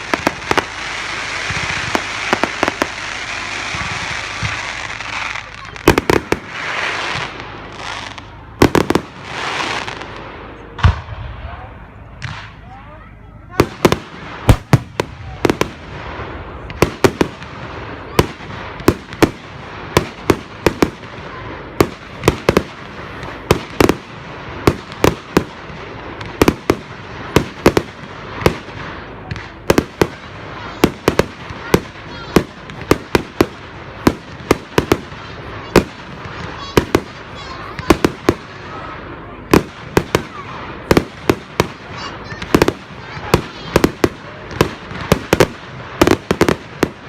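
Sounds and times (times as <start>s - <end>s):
background noise: 0.0s - 47.0s
fireworks bangs: 0.0s - 47.0s.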